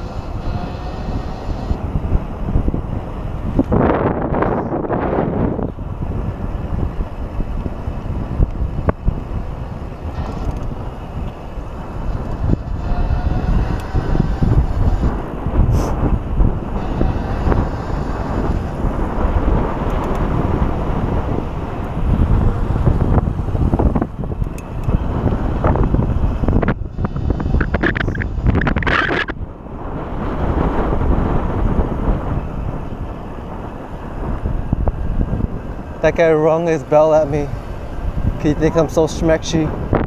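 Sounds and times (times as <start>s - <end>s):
electric hub motor whine: 0.0s - 40.0s
wind buffeting microphone: 0.0s - 40.0s.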